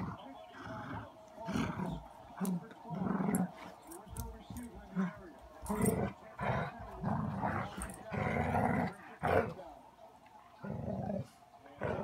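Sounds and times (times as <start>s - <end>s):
dogs growling: 0.0s - 9.7s, 10.5s - 12.0s.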